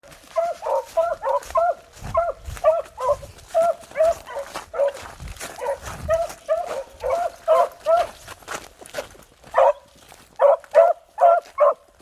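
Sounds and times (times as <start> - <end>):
beagles baying: 0.2 - 5.0, 5.6 - 8.2, 9.5 - 11.9.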